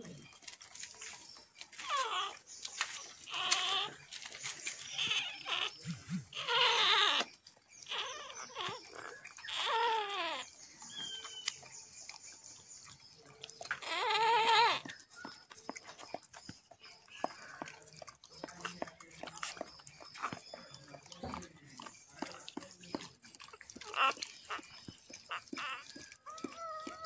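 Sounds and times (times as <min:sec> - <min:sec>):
dog whimpering: 0:00.0 - 0:11.7, 0:12.9 - 0:27.0.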